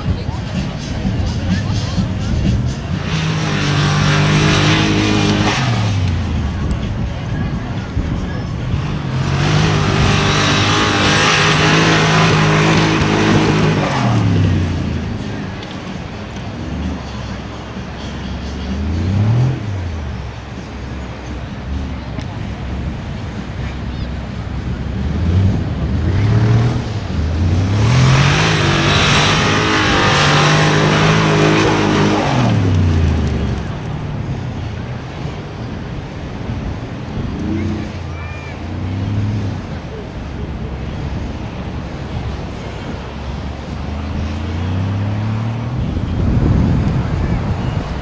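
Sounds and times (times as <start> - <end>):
truck engine pulling hard: 0.0 - 48.0.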